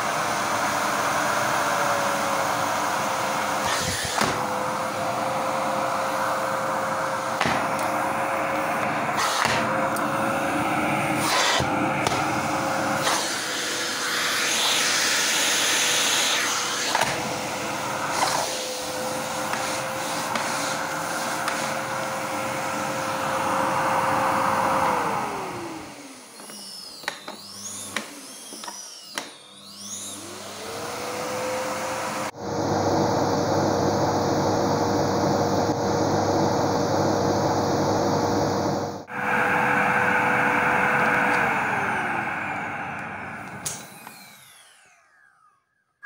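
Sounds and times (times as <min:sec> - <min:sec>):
vacuum cleaner motor: 0:00.0 - 0:45.8.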